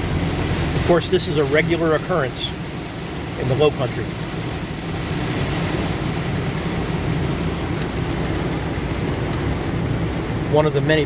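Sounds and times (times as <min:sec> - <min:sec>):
car engine and road noise: 0:00.0 - 0:11.0
heavy rain on car: 0:00.0 - 0:11.0.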